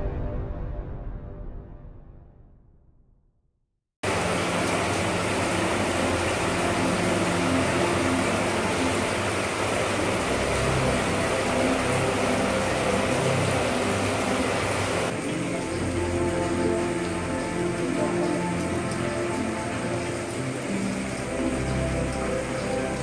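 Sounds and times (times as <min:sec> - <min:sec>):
heavy rain pouring: 0:04.0 - 0:23.0.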